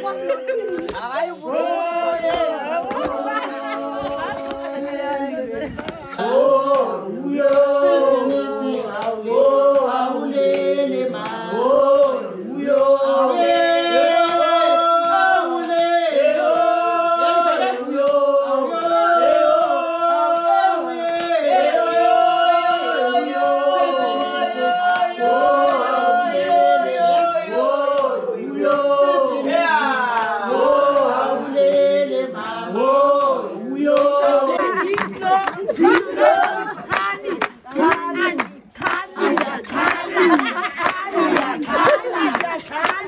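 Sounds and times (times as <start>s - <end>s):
group singing in harmony: 0.0s - 43.0s.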